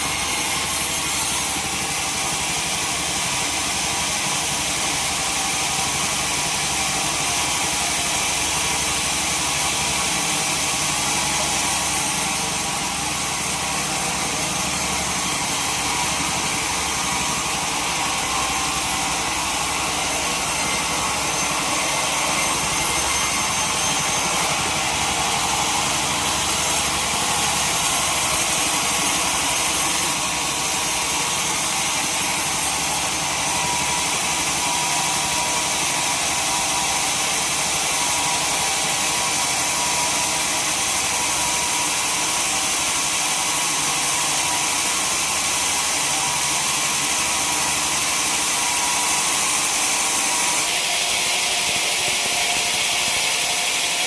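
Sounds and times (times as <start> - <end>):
saw cutting through log: 0.0 - 54.0.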